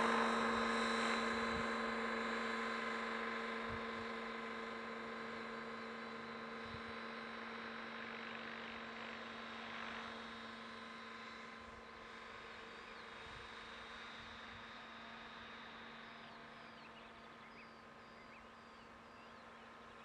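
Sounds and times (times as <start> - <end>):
rc helicopter buzzing whine: 0.0 - 20.0.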